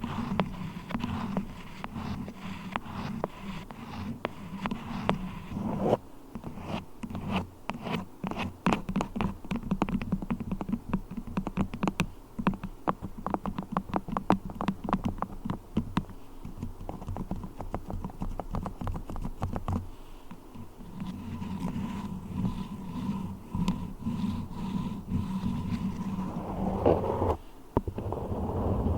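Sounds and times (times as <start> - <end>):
beeswax tapped and scratched: 0.0 - 5.8, 6.4 - 28.9.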